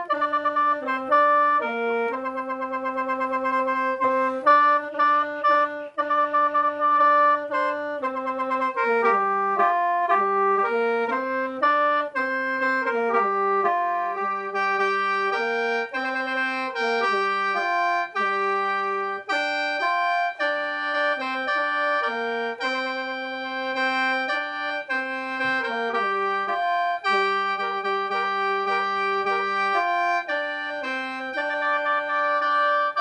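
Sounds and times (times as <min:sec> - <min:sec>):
bamboo mouth organ melody: 0:00.0 - 0:33.0.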